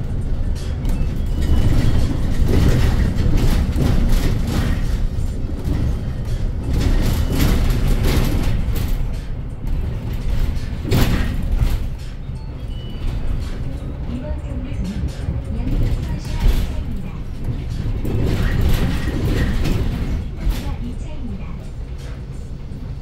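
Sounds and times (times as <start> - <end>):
bus jolting over bump: 0.0 - 21.1
bus body knocking: 0.0 - 22.4
low rumble of tyres and road: 0.0 - 23.0.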